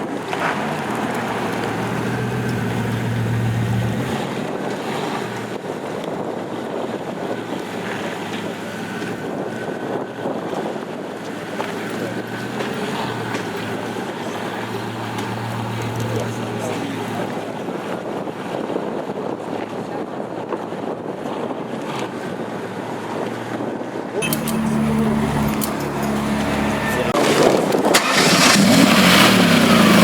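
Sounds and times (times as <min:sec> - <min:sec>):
street traffic engine hum: 0:00.0 - 0:30.0.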